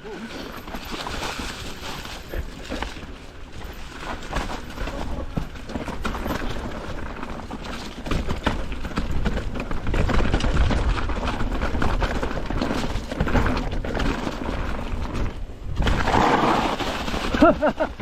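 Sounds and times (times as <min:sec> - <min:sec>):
mountain bike rattling over rocks: 0:00.0 - 0:18.0.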